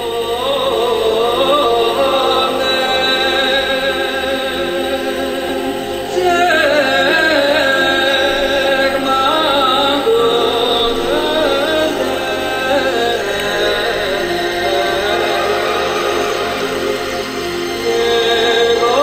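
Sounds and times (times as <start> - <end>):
voices singing in chorus: 0.0 - 19.0.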